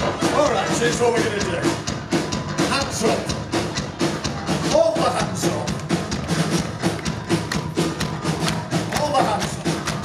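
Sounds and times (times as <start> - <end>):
drum kit beating: 0.0 - 10.0
live rock band playing: 0.0 - 10.0.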